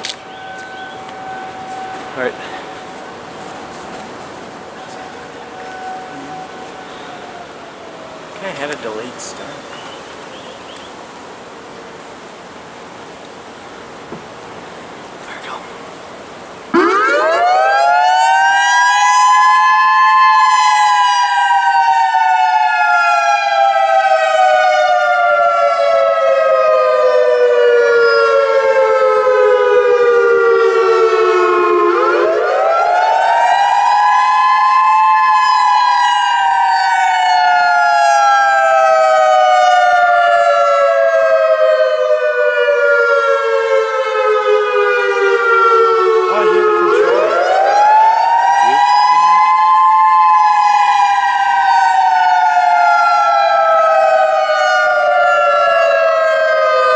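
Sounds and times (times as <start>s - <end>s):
rising and falling warning siren: 0.0s - 9.6s, 16.2s - 56.9s.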